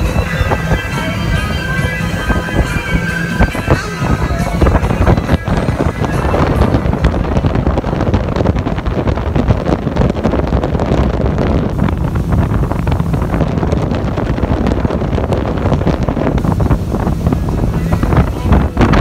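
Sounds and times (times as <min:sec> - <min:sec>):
motorboat running: 0:00.0 - 0:19.0
water rushing: 0:00.0 - 0:19.0
wind buffeting microphone: 0:00.0 - 0:19.0.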